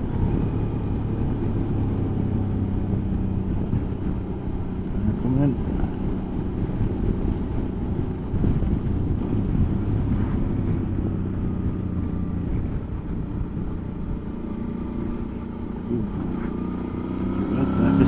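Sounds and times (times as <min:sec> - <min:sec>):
motorcycle engine droning: 0:00.0 - 0:18.0
road noise: 0:00.0 - 0:18.0.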